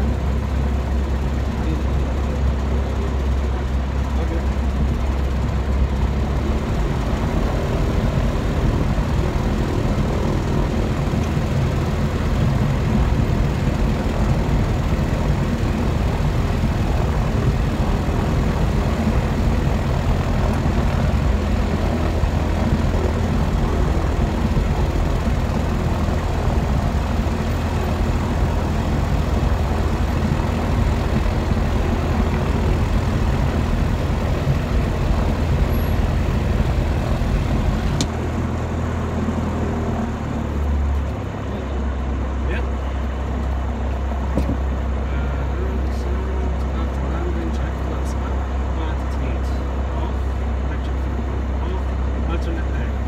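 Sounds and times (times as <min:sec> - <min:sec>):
aircraft engine and propeller drone: 0:00.0 - 0:53.0.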